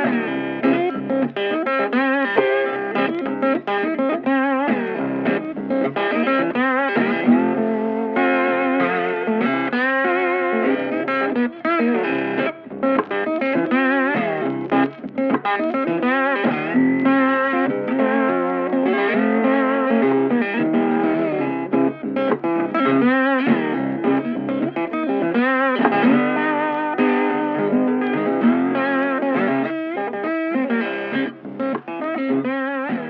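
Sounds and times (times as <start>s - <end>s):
guitar melody: 0.0s - 33.0s.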